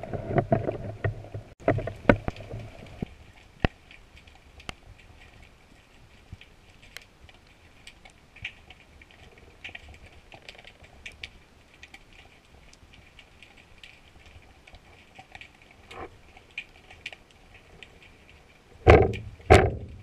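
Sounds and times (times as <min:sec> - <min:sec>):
low rumble of water: 0:00.0 - 0:20.0
sharp underwater clicks and crackles: 0:00.0 - 0:20.0.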